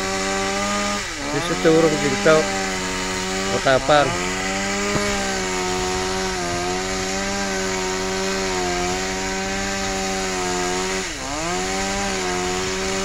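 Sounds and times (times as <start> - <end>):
chainsaw cutting tree limb: 0.0 - 13.0.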